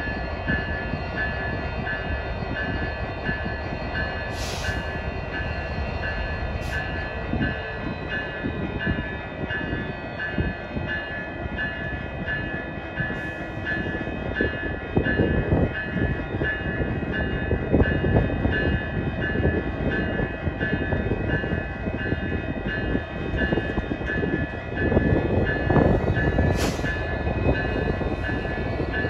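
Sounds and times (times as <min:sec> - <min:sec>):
freight train rumbling: 0:00.0 - 0:29.0.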